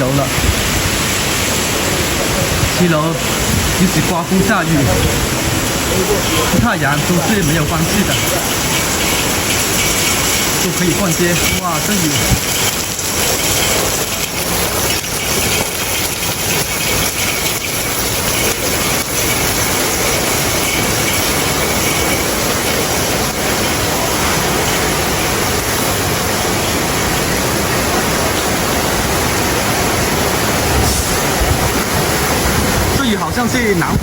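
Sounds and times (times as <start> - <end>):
heavy rain downpour: 0.0 - 34.0.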